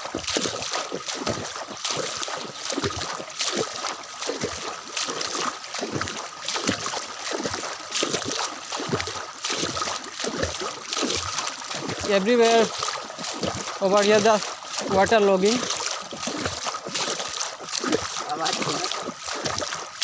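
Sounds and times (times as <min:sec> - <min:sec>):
footsteps splashing through water: 0:00.0 - 0:20.0.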